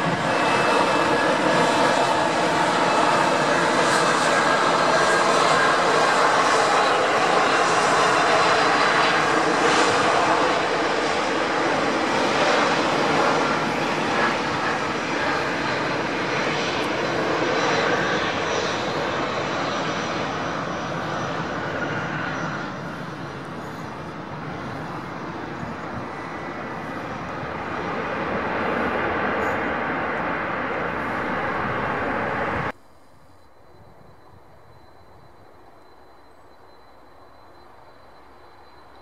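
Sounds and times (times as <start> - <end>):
jet engines rushing: 0.0 - 32.8.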